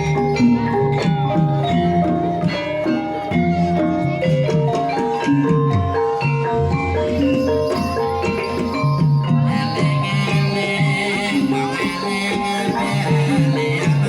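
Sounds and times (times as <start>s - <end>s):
gamelan mallet melody: 0.0s - 14.0s.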